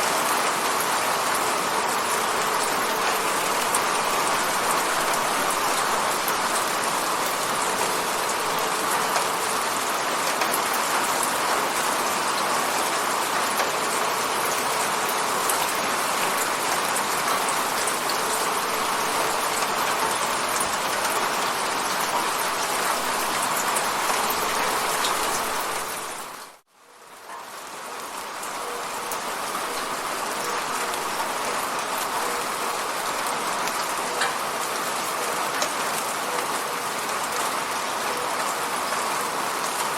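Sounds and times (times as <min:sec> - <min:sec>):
rain hitting a window: 0:00.0 - 0:26.6, 0:27.2 - 0:39.9.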